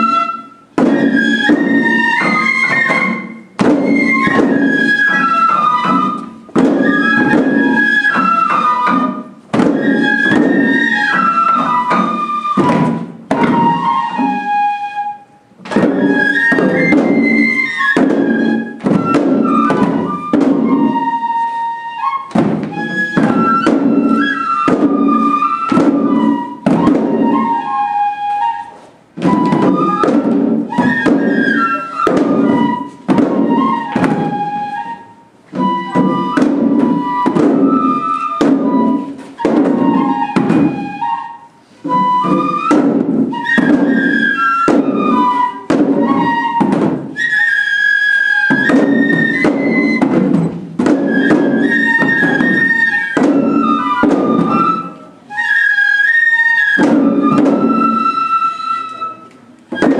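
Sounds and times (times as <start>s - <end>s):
bamboo flute melody: 0.0s - 59.9s
small drums beating: 0.0s - 59.9s.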